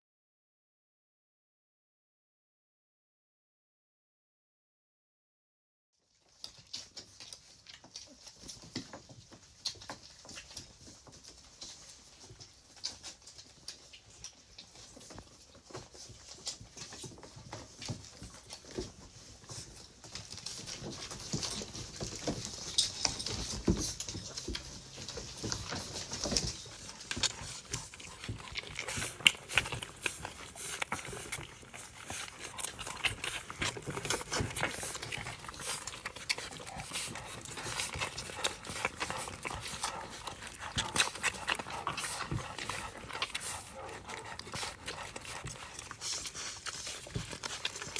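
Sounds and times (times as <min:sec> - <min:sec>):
paws scrabbling on wooden floor: 0:06.1 - 0:47.9
puppies suckling: 0:06.1 - 0:47.9.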